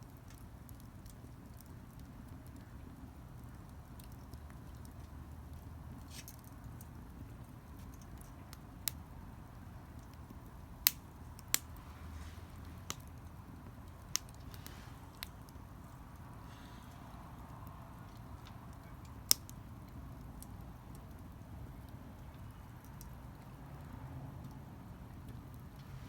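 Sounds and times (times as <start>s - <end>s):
fire low rumble: 0.0s - 26.0s
wood crackling pops: 0.1s - 16.7s, 17.9s - 23.4s.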